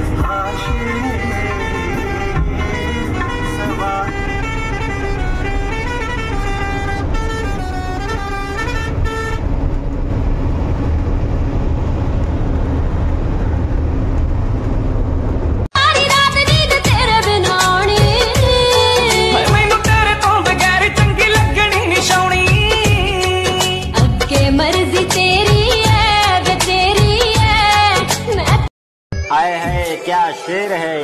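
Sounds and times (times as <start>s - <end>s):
truck engine rumble: 0.0s - 27.6s.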